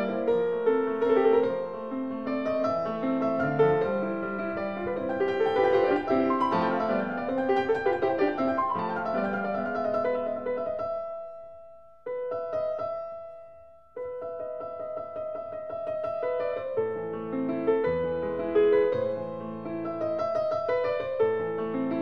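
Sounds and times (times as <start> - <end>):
piano-like keyboard music: 0.0 - 22.0.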